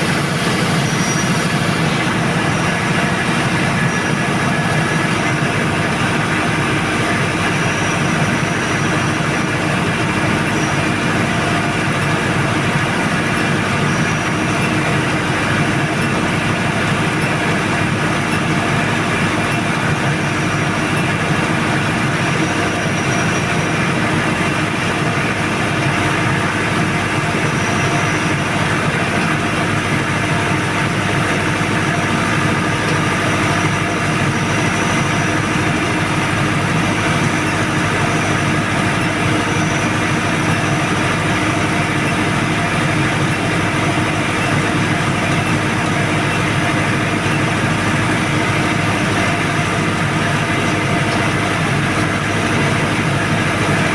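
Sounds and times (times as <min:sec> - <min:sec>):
diesel generator droning: 0:00.0 - 0:53.9.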